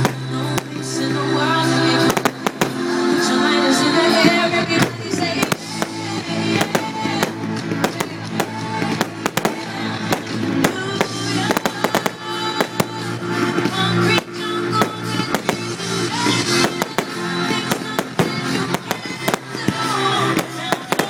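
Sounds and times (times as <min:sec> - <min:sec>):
fireworks bangs and crackles: 0:00.0 - 0:01.2, 0:01.8 - 0:21.0
music playing: 0:00.0 - 0:21.0.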